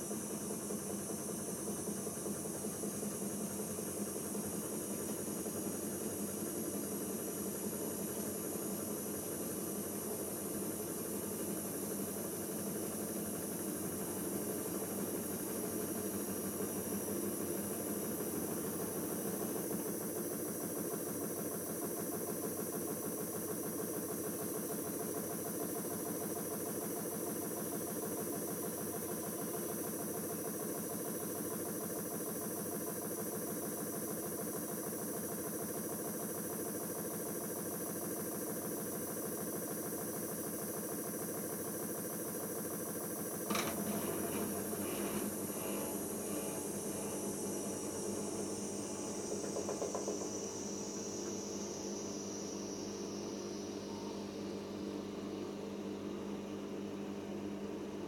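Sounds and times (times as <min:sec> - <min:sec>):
washing machine spinning: 0:00.0 - 0:54.7.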